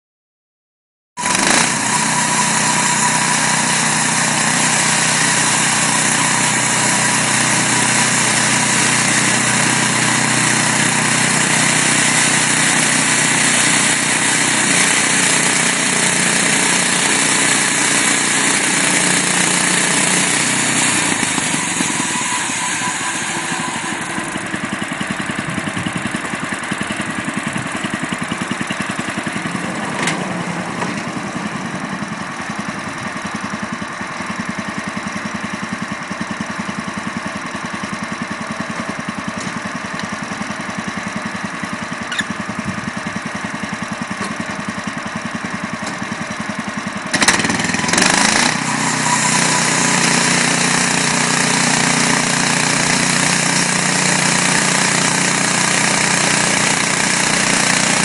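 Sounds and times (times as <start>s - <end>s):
gas engine droning: 1.2s - 58.0s.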